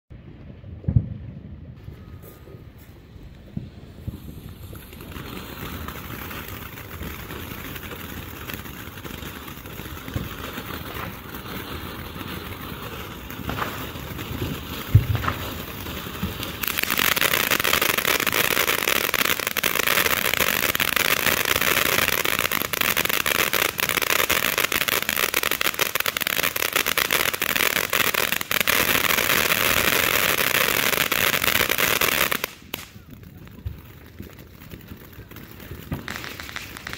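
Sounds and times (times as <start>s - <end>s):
firework crackling: 0.8s - 36.9s
firework fountain hissing: 2.0s - 36.9s.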